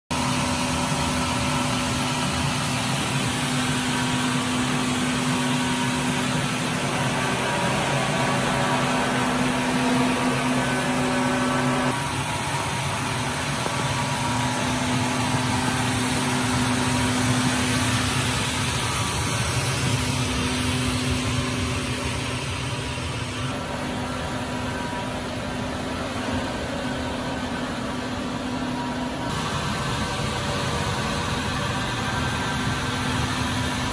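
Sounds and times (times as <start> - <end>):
floor scrubber motor hum: 0.1 - 33.9.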